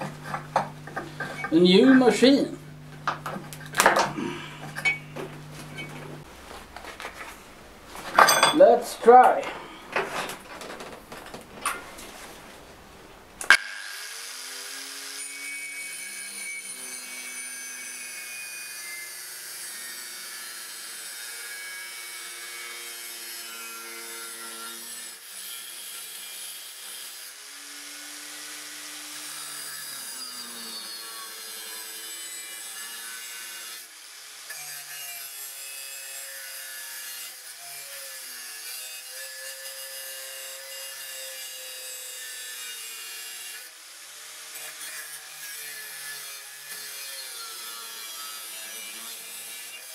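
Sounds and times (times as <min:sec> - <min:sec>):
angle grinder grinding steel: 0:00.0 - 0:06.3, 0:08.0 - 0:10.4, 0:13.5 - 0:49.9.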